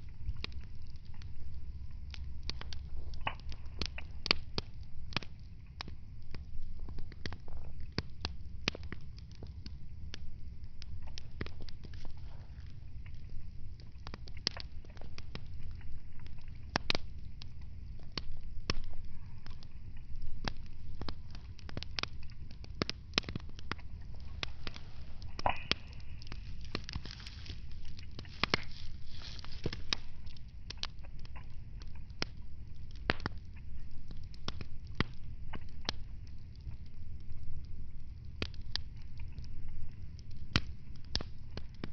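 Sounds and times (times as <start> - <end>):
low rumble of flames: 0.0 - 41.9
wood fire crackling: 0.0 - 41.9.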